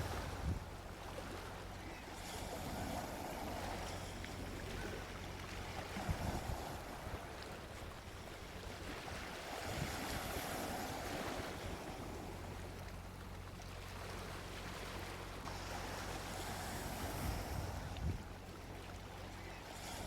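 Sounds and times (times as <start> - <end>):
wind rumble on microphone: 0.0 - 13.2, 15.5 - 20.0
sea waves washing onto beach: 0.0 - 20.0.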